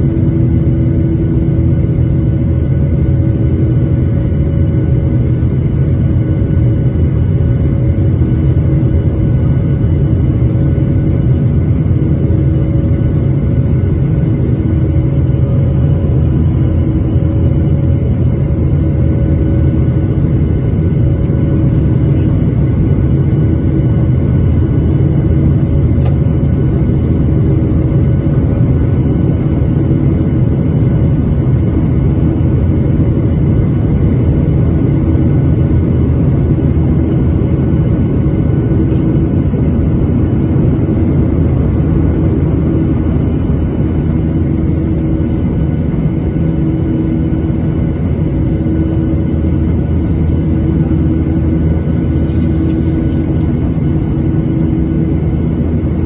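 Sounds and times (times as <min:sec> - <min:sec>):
jet engines rumbling in cabin: 0:00.0 - 0:56.0.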